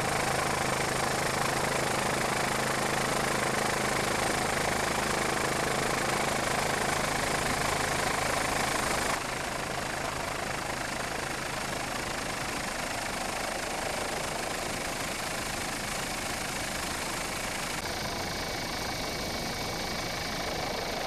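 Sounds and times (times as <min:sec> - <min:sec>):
helicopter engine and rotor noise: 0:00.0 - 0:21.0.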